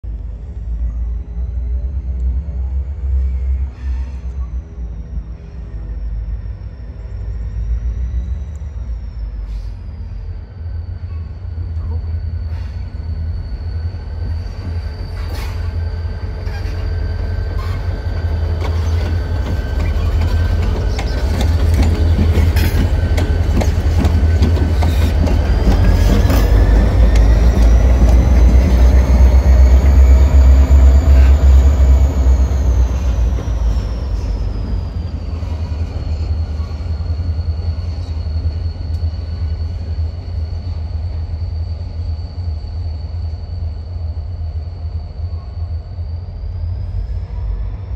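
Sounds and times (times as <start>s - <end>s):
diesel locomotive engine rumble: 0.0s - 47.9s.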